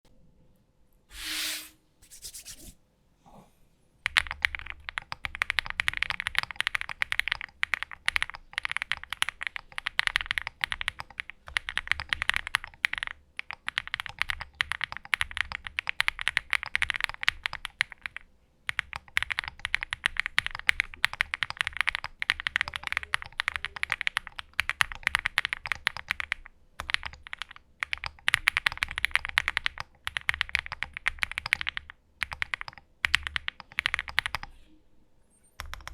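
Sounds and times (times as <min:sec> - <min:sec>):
mechanical keyboard typing: 0:04.0 - 0:34.5, 0:35.6 - 0:35.9.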